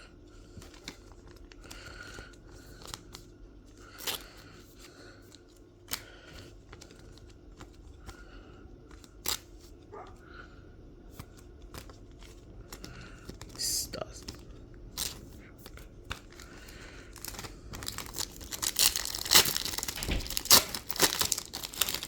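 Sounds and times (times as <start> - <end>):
foil and card rustling: 0.4 - 10.2, 11.1 - 22.0.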